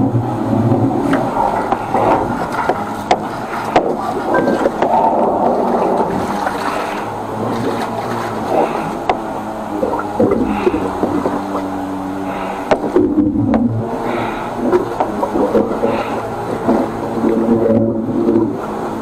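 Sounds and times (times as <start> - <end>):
engine humming: 0.0 - 19.0
water gushing through drain: 0.4 - 19.0.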